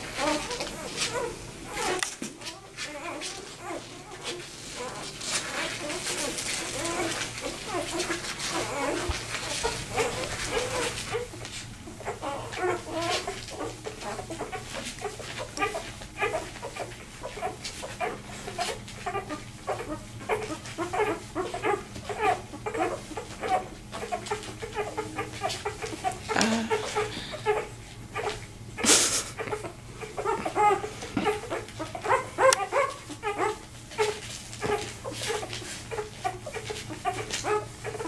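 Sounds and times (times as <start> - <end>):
puppy squeaking and whimpering: 0.2 - 38.0.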